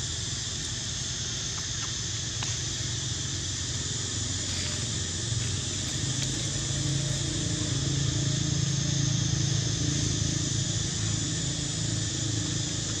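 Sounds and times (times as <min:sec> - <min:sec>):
high hiss: 0:00.0 - 0:13.0
low motor hum: 0:00.0 - 0:13.0.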